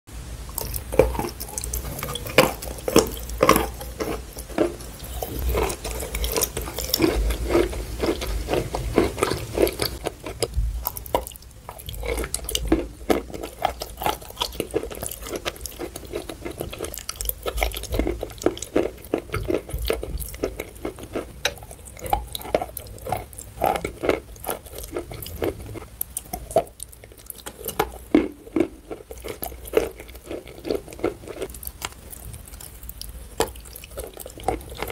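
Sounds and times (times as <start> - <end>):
close-up chewing: 0.5 - 34.9
crackles and clicks: 0.5 - 34.9.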